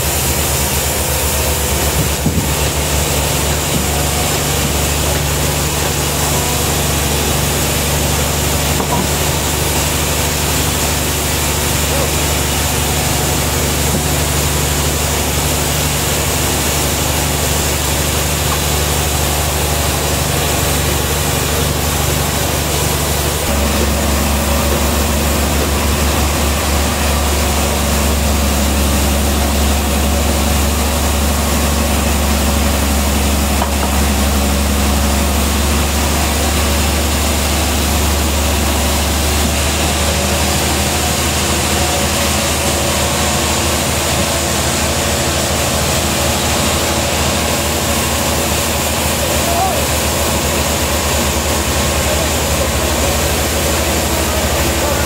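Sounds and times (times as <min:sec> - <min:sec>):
sawmill engine humming: 0:00.0 - 0:55.0.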